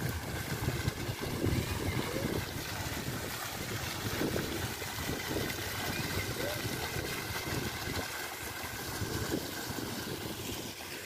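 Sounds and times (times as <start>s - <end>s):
wind gusting on microphone: 0.0s - 10.7s
fountain jets splashing: 0.0s - 11.0s.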